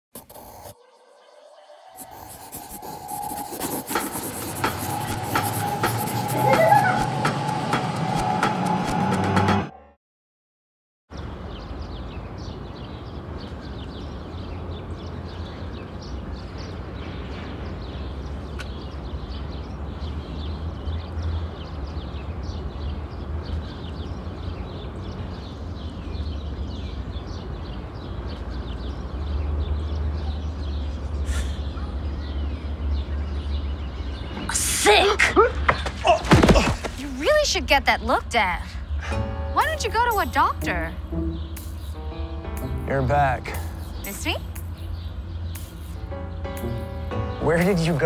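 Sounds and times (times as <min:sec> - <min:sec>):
small birds chirping: 0:00.2 - 0:07.1, 0:11.1 - 0:48.0
distant traffic rumble: 0:02.1 - 0:09.6, 0:11.1 - 0:48.0.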